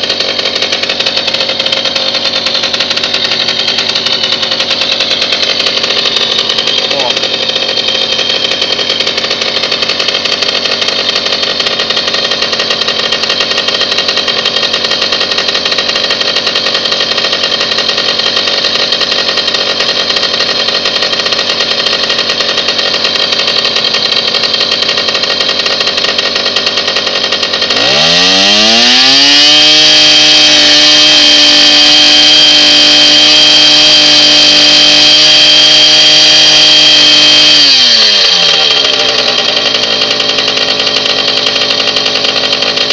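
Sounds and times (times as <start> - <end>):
moped engine idling and revving: 0.0 - 42.9.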